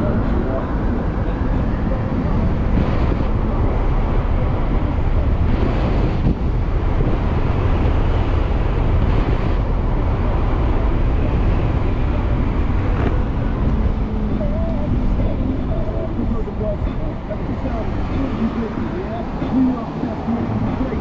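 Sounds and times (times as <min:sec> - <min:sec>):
road noise: 0:00.0 - 0:21.0
wind rushing over microphone: 0:00.0 - 0:21.0.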